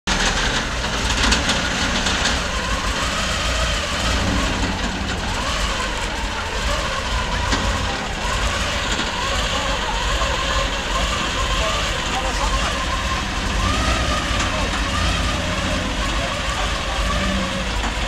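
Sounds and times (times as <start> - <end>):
engine idling drone: 0.1 - 18.0.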